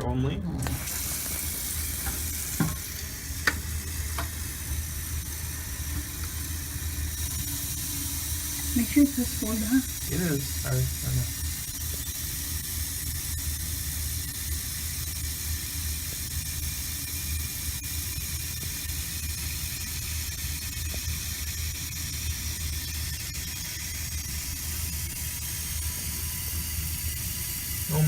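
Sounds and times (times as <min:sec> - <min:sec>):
tap water running into tank: 0:00.5 - 0:28.0.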